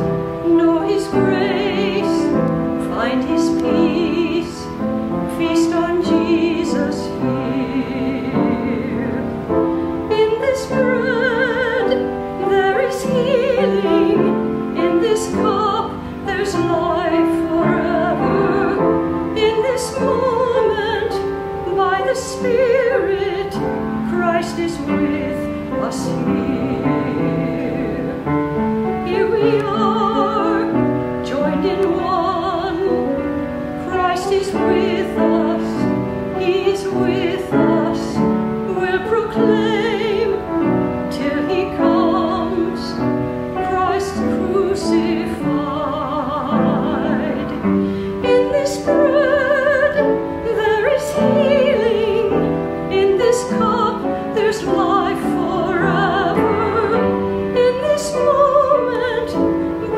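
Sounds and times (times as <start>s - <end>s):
person singing hymn with vibrato: 0.0s - 59.9s
piano accompaniment: 0.0s - 59.9s.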